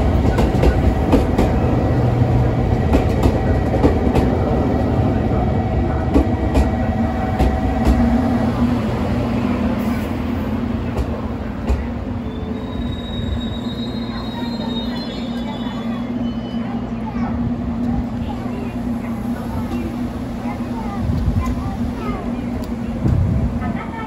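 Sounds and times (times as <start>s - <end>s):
electric train humming: 0.0s - 24.0s.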